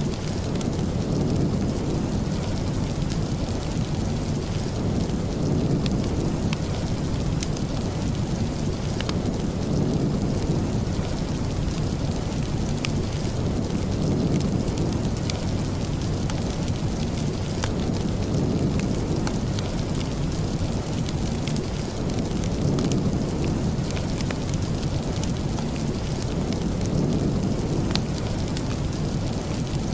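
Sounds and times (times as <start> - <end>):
steady rain rumble: 0.0 - 29.9.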